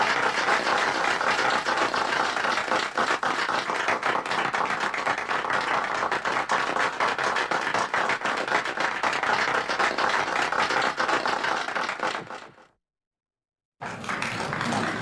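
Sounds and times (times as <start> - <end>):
crowd applauding: 0.0 - 12.6, 13.8 - 15.0.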